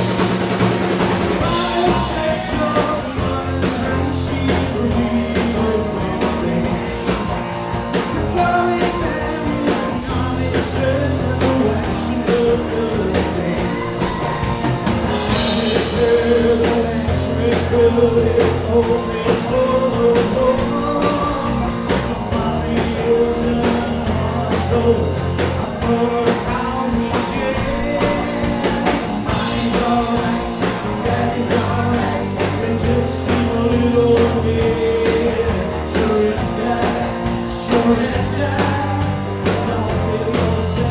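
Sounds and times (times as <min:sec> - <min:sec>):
bass guitar: 0:00.0 - 0:40.9
drum kit: 0:00.0 - 0:40.9
electric guitar: 0:00.0 - 0:40.9
man singing: 0:01.3 - 0:40.9.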